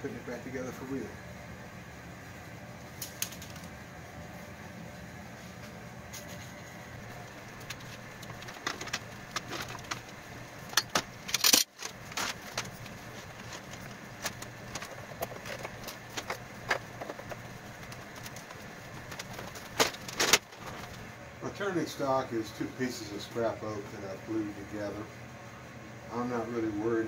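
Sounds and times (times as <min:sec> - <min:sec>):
low workshop hum: 0:00.0 - 0:27.0.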